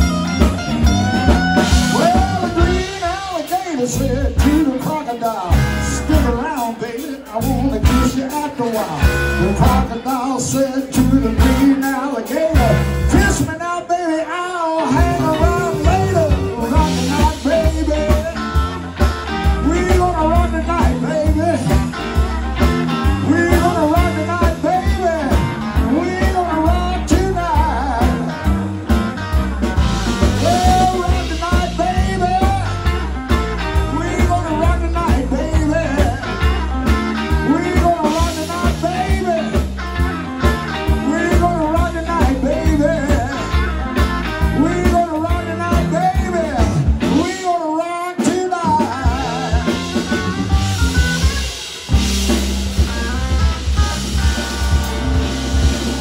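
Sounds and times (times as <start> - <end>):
bass line: 0.0 - 14.2, 14.8 - 56.0
electric guitar lead: 0.0 - 47.5, 48.1 - 56.0
rhythm guitar: 0.0 - 56.0.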